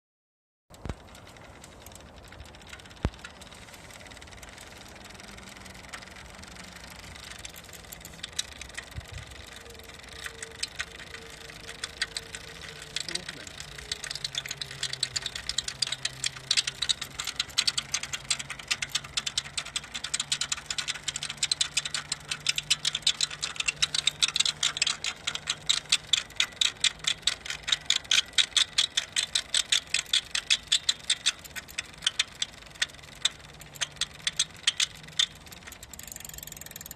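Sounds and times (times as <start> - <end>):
faint steady hum: 0.7 - 36.9
motor rapid uneven clicking: 0.7 - 36.9.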